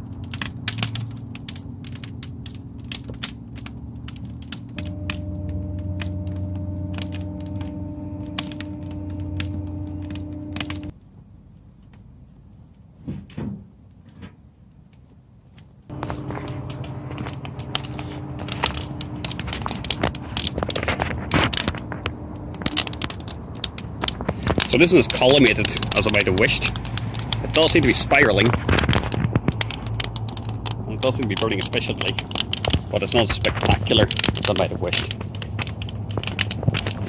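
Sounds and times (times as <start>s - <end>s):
steady low hum: 0.0s - 11.0s, 15.9s - 37.0s
fire crackling and popping: 0.0s - 12.7s, 13.9s - 37.0s.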